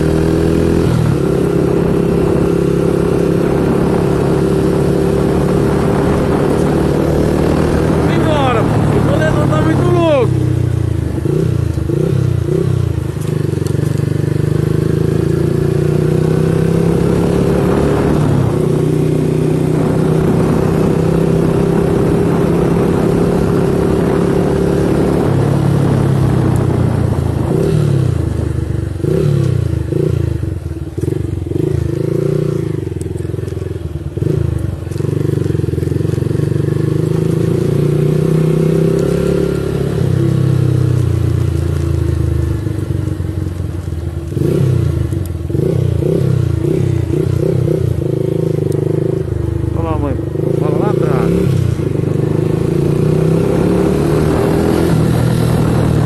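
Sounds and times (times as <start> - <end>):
wind noise: 0.0 - 42.2, 50.4 - 56.0
road noise: 0.0 - 56.0
small motorcycle engine running: 0.0 - 56.0.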